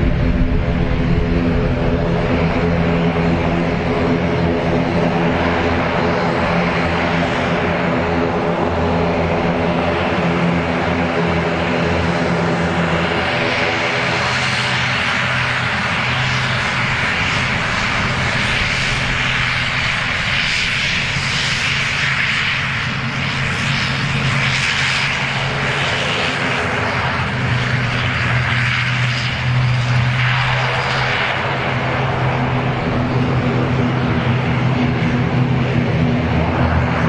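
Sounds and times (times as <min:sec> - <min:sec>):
aircraft engines running: 0:00.0 - 0:37.0.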